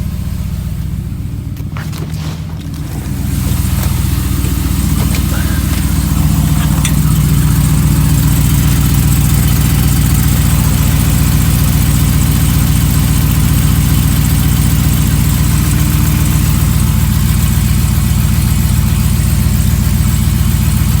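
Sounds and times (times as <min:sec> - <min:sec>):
engine idling: 0:00.0 - 0:21.0
engine knocking: 0:00.0 - 0:21.0.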